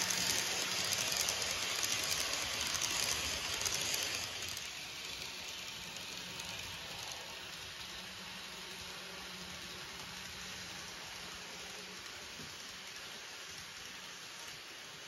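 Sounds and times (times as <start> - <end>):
model train wheels rolling: 0.0 - 15.0.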